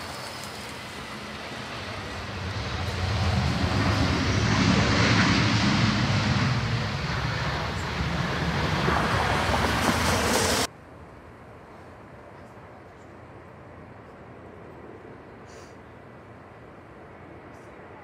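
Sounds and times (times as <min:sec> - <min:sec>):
airliner jet engines: 0:00.0 - 0:18.0.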